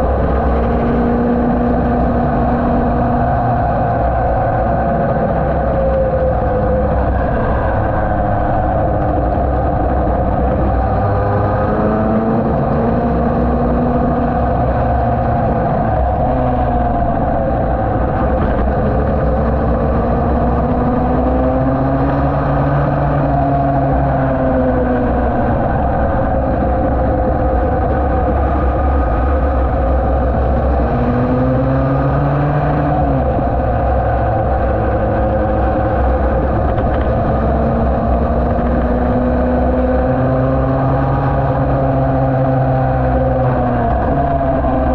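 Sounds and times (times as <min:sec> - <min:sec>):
two-stroke engine racing: 0:00.0 - 0:44.9
wind noise on microphone: 0:00.0 - 0:44.9.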